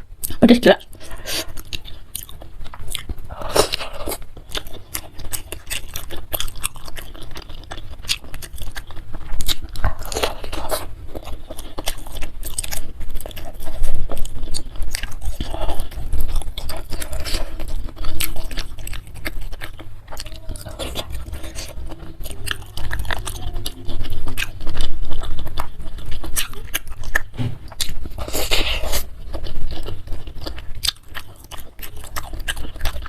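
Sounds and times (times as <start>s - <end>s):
wet chewing: 0.2s - 33.0s.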